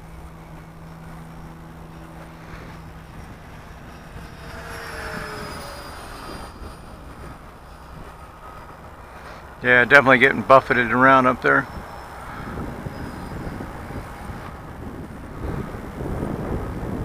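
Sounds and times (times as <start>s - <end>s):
wind on microphone: 0.0s - 11.0s, 11.6s - 17.0s
rc jet fan whine: 0.0s - 17.0s.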